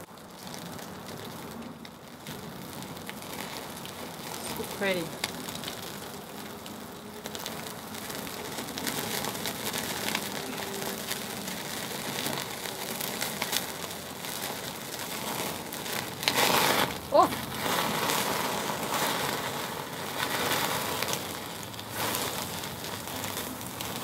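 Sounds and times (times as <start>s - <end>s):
fat popping on coals: 0.0s - 24.0s
steak sizzling on a grill: 0.0s - 24.0s.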